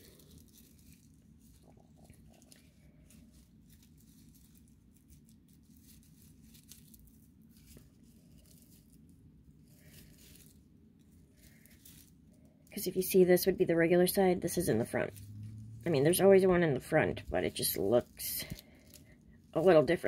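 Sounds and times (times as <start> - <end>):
low room hum: 0.0 - 20.0
raffia rustling: 0.0 - 20.0.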